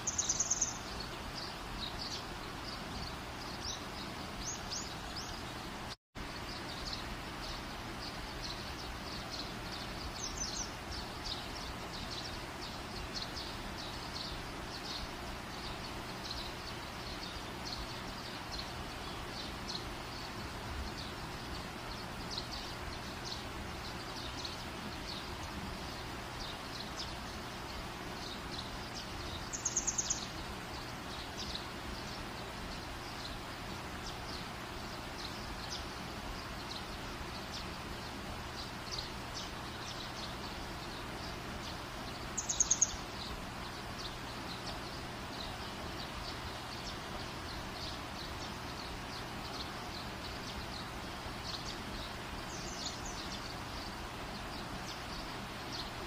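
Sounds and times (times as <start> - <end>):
birds chirping and twittering: 0.0 - 56.0
steady background hiss: 0.0 - 56.0.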